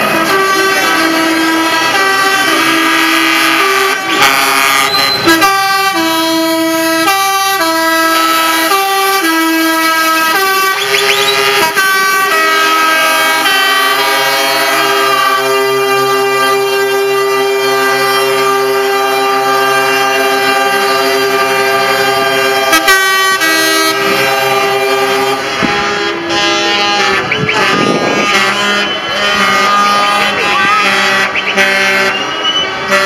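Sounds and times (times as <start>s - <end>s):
musical truck horn playing a tune: 0.0s - 33.0s.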